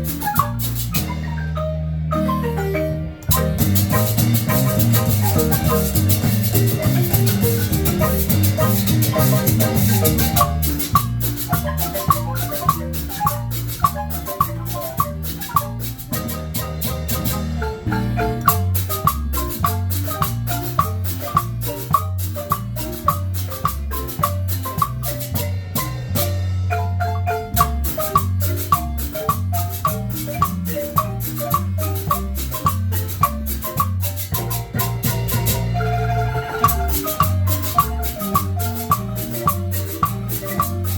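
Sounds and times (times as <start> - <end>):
bass line: 0.0 - 40.9
marimba notes: 0.0 - 40.9
percussion beat: 0.0 - 40.9.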